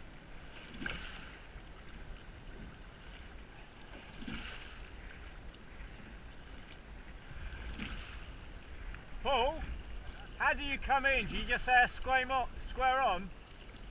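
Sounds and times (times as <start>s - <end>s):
oar strokes in water: 0.0s - 13.9s.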